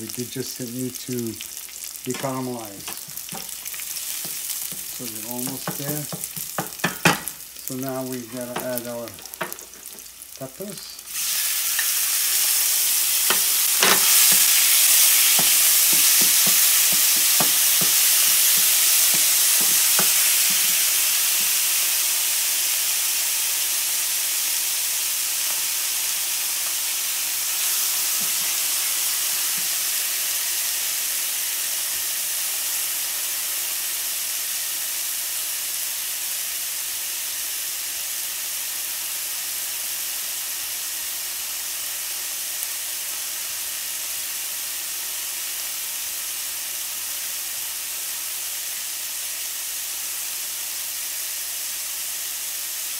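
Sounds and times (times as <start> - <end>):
peppers sizzling in a pan: 0.0 - 52.9.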